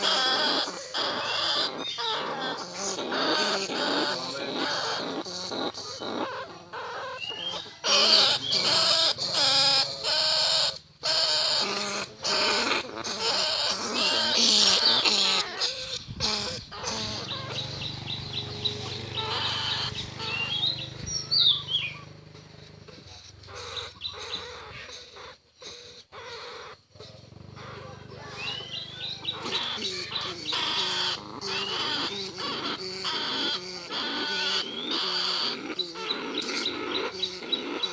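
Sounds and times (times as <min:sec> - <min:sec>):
rats squealing and chirping: 0:00.0 - 0:37.9.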